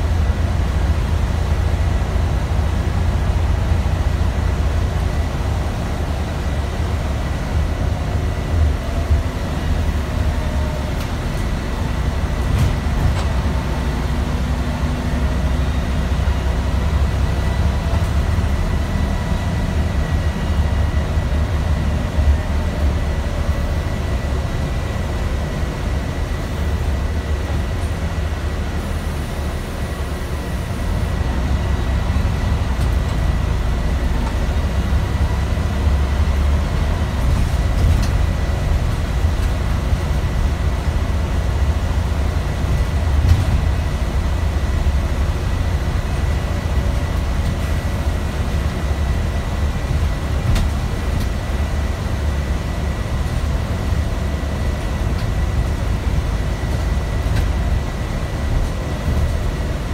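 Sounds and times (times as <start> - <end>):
bus engine low rumble: 0.0 - 59.9.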